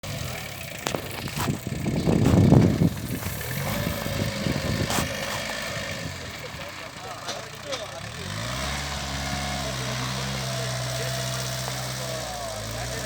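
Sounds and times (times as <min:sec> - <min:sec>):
concrete mixer engine running: 0:00.0 - 0:13.0.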